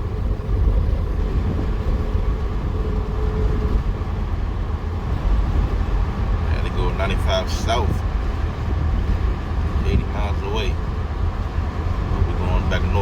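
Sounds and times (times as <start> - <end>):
truck cab road rumble: 0.0 - 13.0.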